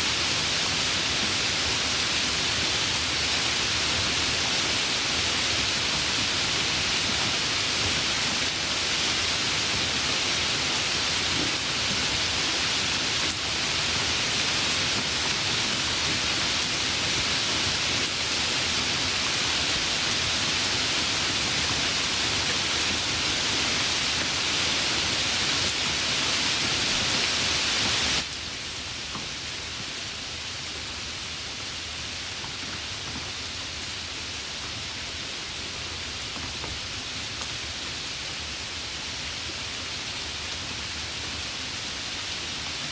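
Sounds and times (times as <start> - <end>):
light rain hissing: 0.0 - 42.9.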